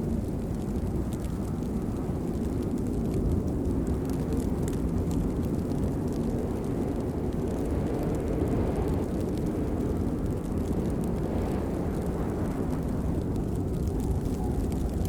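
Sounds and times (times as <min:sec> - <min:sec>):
patter of raindrops: 0:00.0 - 0:15.0
steady rain rushing: 0:00.0 - 0:15.0.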